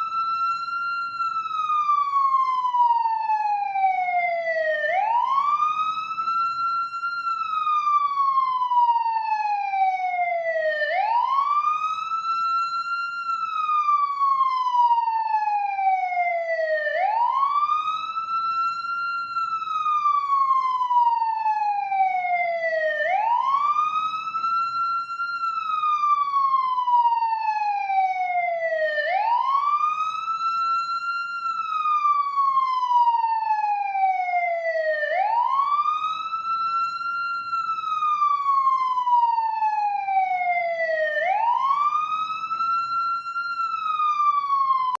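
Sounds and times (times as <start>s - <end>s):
ambulance siren wailing: 0.0s - 45.0s.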